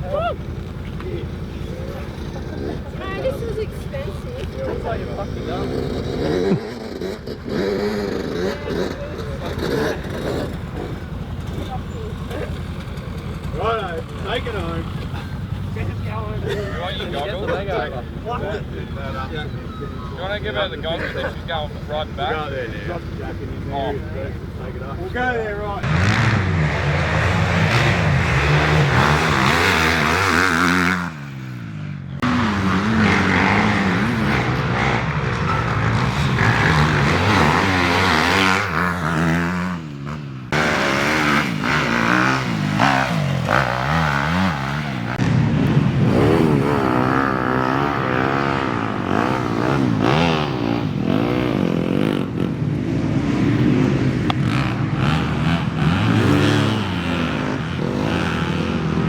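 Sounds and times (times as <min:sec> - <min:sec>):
race vehicle engines revving: 0:00.0 - 0:59.0.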